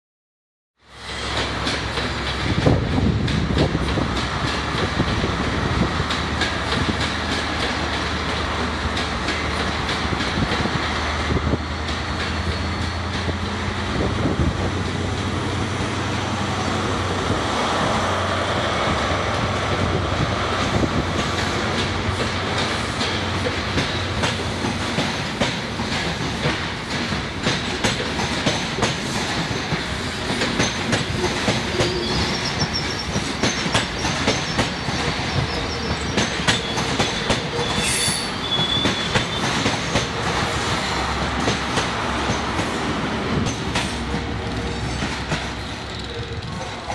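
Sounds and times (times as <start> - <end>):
train wheels clicking on rail joints: 0.9 - 46.9.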